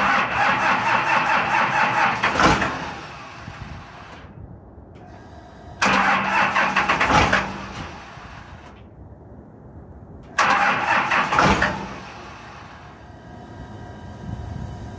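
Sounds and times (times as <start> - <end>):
diesel engine cranking on starter: 0.0 - 4.3, 5.0 - 8.9, 10.2 - 14.9.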